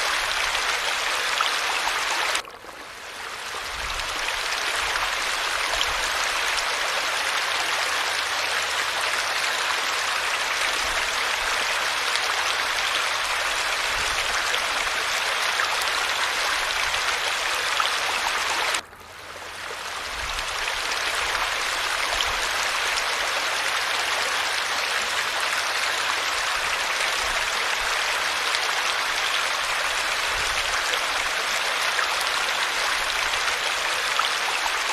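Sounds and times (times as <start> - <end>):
rush of falling water: 0.0 - 34.9.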